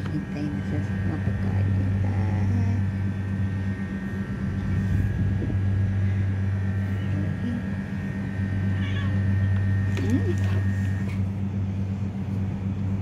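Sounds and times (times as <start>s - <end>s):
faint high whine: 0.0s - 13.0s
low machine hum: 0.0s - 13.0s.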